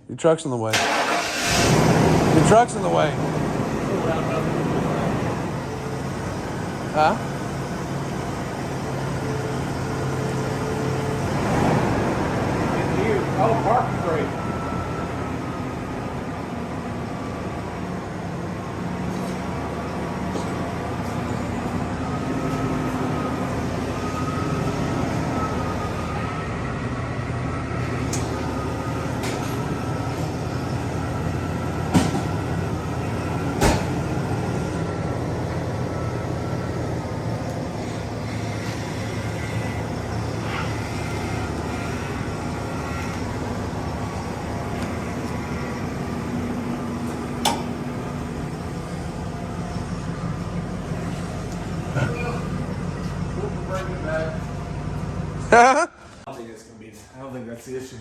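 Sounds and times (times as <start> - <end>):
truck engine running: 0.8 - 58.0.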